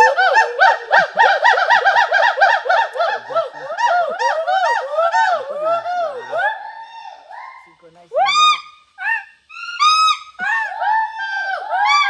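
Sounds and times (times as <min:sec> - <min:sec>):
gibbon whooping: 0:00.0 - 0:12.0.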